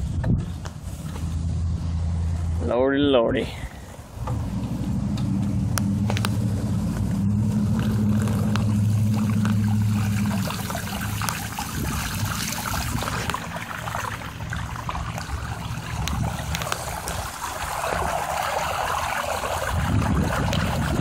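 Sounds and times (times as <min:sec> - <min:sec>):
water splashing and sloshing: 0:00.0 - 0:02.6, 0:03.6 - 0:21.0.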